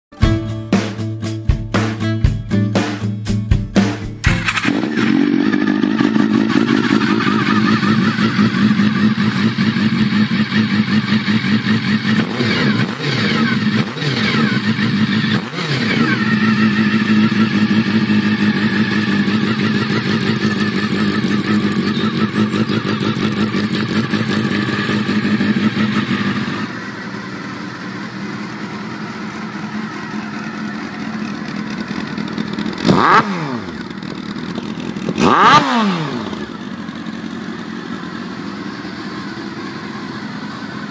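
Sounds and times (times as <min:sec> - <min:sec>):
motorcycle engine running: 0:00.2 - 0:40.9.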